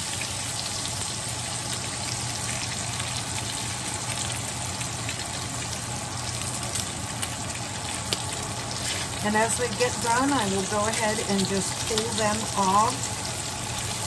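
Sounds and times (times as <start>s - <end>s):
bacon sizzling in skillet: 0.0s - 14.0s.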